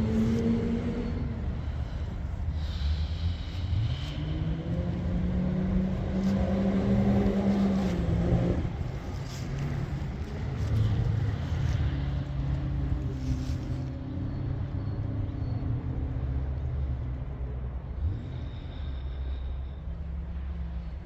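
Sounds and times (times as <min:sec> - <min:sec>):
off-road vehicle engine: 0:00.0 - 0:21.0.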